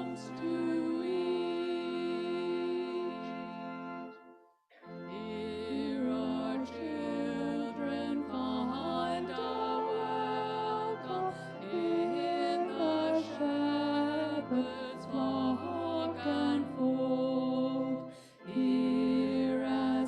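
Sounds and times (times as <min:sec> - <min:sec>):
slow hymn singing: 0:00.0 - 0:04.2, 0:04.8 - 0:20.0.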